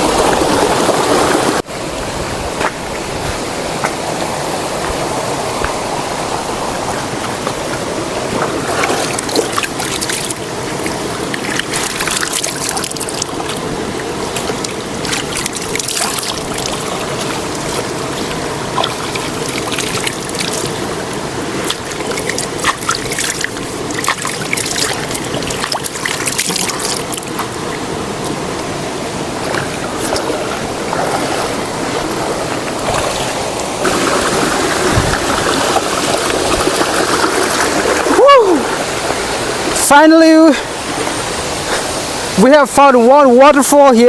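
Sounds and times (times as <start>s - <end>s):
stream trickling over rocks: 0.0s - 44.0s.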